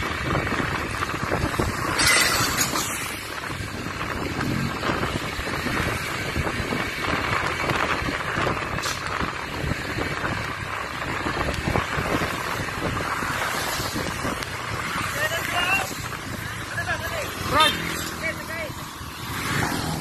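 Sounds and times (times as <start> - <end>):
motorcycle road noise: 0.0 - 20.0
wind rush over microphone: 0.0 - 20.0.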